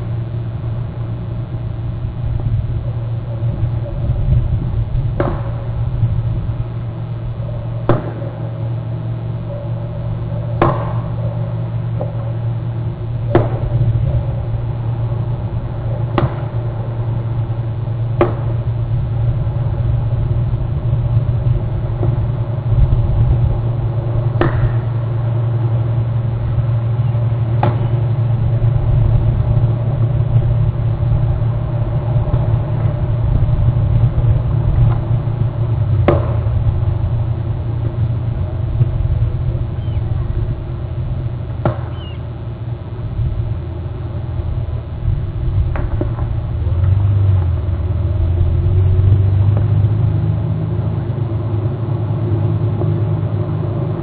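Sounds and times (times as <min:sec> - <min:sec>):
low rumble: 0:00.0 - 0:54.0.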